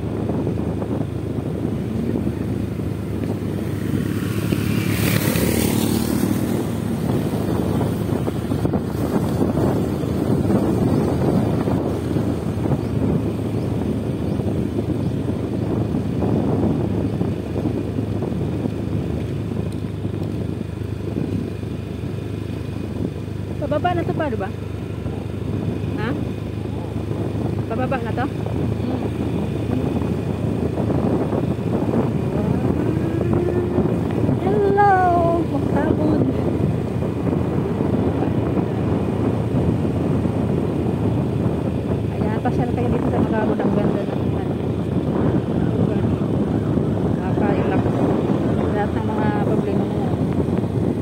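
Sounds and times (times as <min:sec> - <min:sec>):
engine drone: 0:00.0 - 0:51.0
road noise: 0:00.0 - 0:51.0
wind rumbling on microphone: 0:00.0 - 0:51.0.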